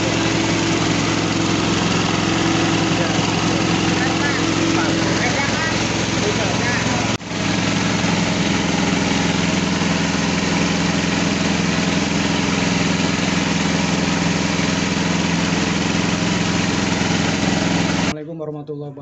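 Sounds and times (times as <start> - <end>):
rice milling machine droning: 0.0 - 18.2.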